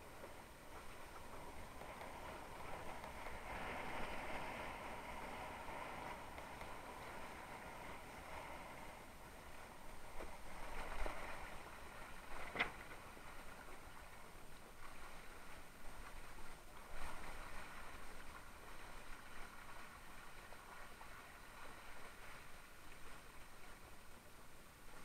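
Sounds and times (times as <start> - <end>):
water rushing along a hull: 0.0 - 25.0.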